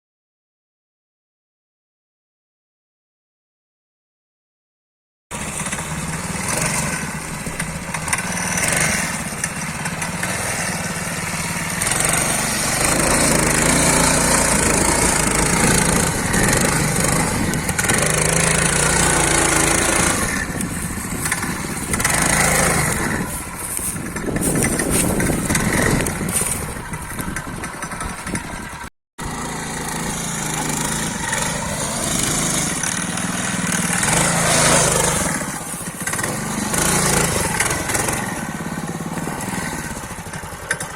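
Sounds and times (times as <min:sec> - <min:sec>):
small motorcycle engine revving: 0:05.3 - 0:40.9.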